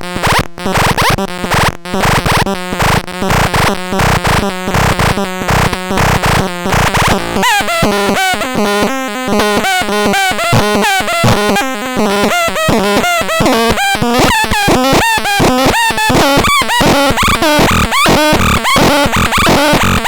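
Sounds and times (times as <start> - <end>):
buzzy pulsing electronic tones: 0.0 - 20.0.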